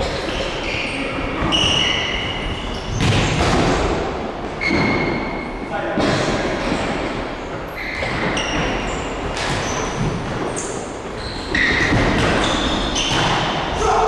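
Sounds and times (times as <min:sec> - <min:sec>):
shoes squeaking on floor: 0:00.0 - 0:03.8, 0:04.4 - 0:14.0
din of indoor ball game: 0:00.0 - 0:14.0.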